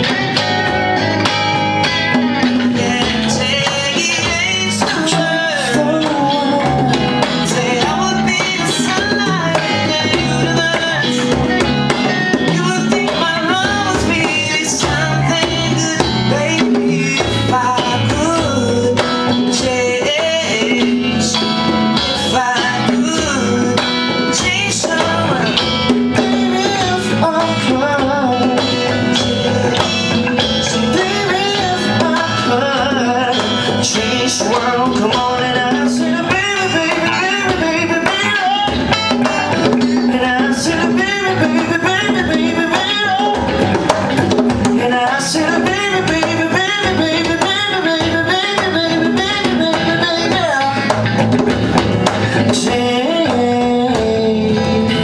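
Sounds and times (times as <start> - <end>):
bass guitar: 0.0 - 55.0
drums: 0.0 - 55.0
electric guitar: 0.0 - 55.0
man singing into a microphone: 1.9 - 55.0.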